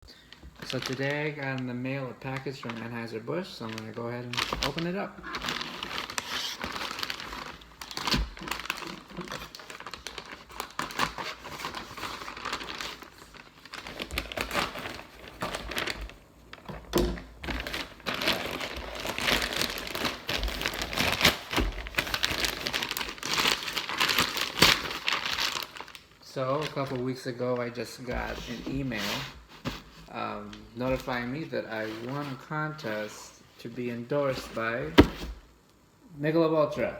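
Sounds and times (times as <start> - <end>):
packaging crinkling and tearing: 0.4 - 33.1.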